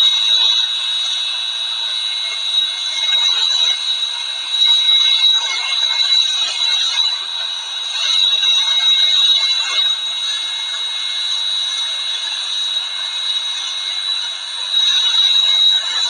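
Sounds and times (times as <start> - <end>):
jet turbine whine: 0.0 - 16.0.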